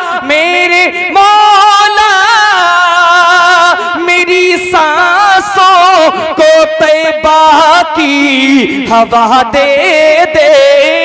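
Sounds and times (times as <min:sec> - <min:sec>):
man singing into microphone: 0:00.0 - 0:11.0.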